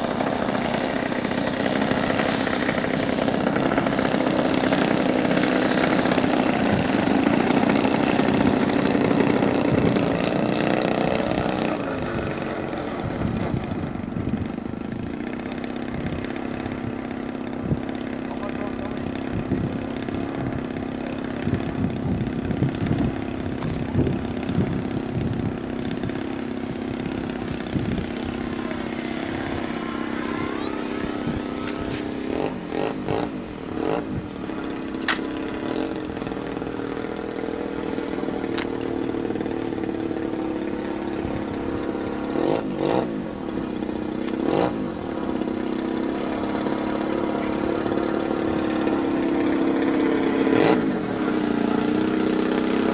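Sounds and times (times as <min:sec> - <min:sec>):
model airplane engine running: 0:00.0 - 0:52.9.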